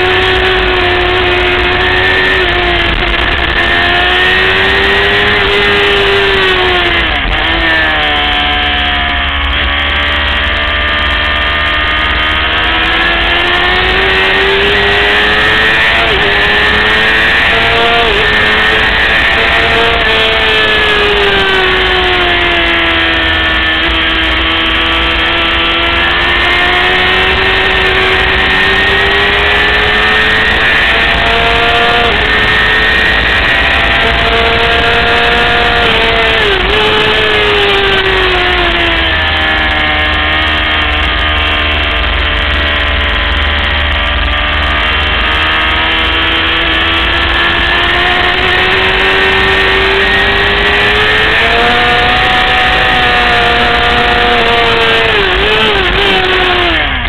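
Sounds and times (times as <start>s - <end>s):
racing motorcycle engine revving: 0.0s - 57.0s.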